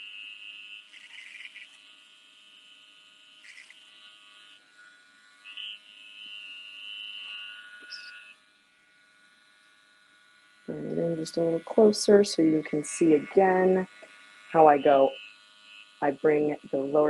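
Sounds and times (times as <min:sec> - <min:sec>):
clipper blades cutting hair: 0:00.0 - 0:17.0
hair clipper motor hum: 0:00.0 - 0:17.0.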